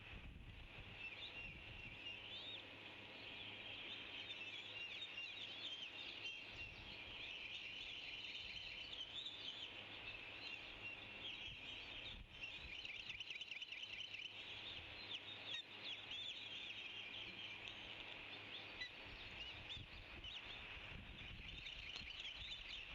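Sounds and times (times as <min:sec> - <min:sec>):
birds chirping: 0:00.9 - 0:22.9.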